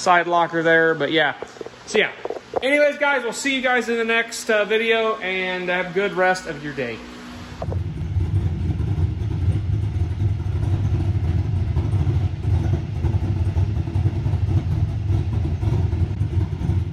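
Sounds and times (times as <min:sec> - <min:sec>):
low-pitched engine running: 0:01.4 - 0:16.9.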